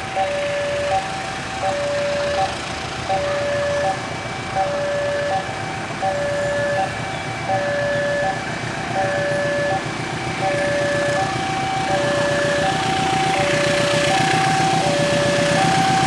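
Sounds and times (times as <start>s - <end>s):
diesel locomotive rumbling: 0.0s - 16.0s
two-tone crossing alarm chime: 0.0s - 16.0s.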